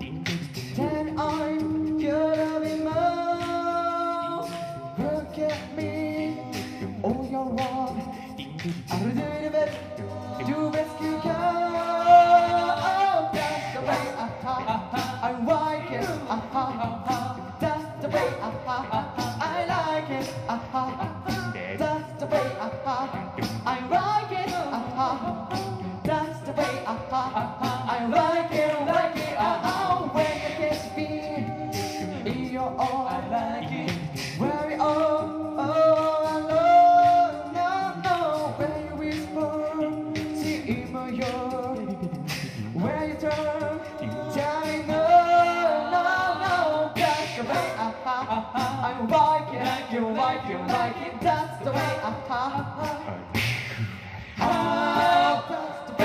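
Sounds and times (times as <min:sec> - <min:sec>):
male group singing in harmony: 0:00.0 - 0:53.2, 0:54.4 - 0:56.0
vocal percussion clicking: 0:00.0 - 0:56.0.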